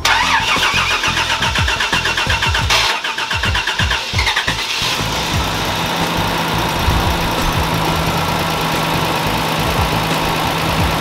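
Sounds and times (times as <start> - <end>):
car engine cranking and starting: 0.0 - 11.0
car engine idling: 0.0 - 11.0.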